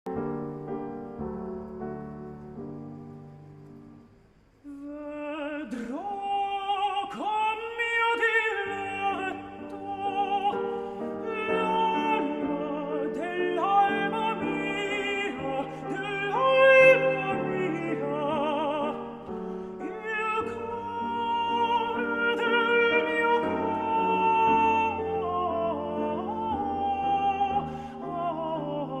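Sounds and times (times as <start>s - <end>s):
operatic solo voice singing: 4.7s - 29.0s.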